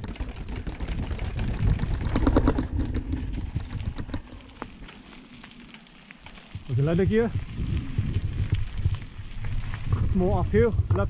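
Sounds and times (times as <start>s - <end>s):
bike rattling down concrete steps: 0.0s - 11.0s
bike rolling on dirt: 0.0s - 11.0s.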